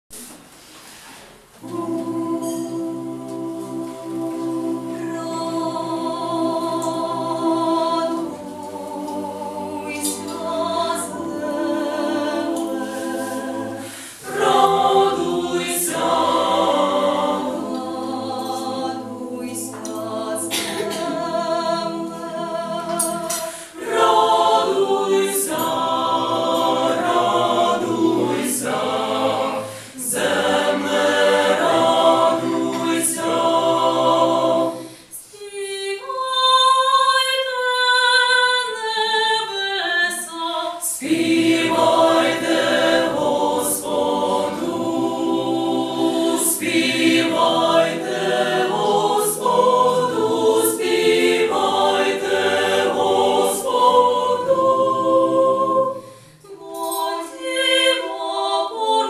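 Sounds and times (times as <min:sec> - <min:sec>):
mixed choir singing a cappella: 0:00.9 - 0:59.0.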